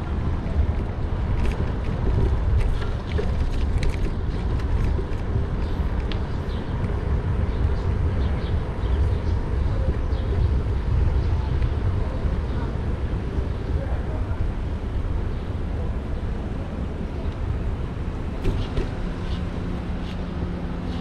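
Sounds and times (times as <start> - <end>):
tyre and road noise: 0.0 - 21.0
wind rumble on microphone: 0.0 - 21.0.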